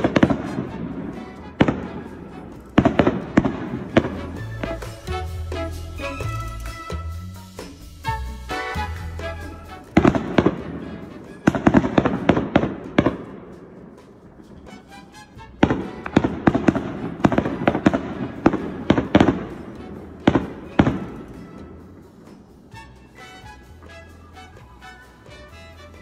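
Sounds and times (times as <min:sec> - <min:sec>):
firework shells bursting: 0:00.0 - 0:26.0.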